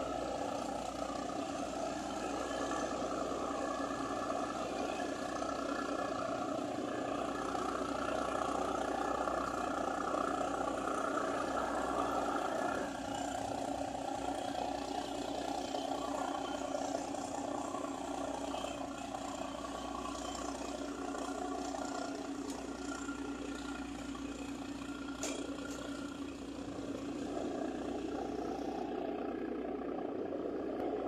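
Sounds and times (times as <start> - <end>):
ferry engines droning: 0.0 - 31.0.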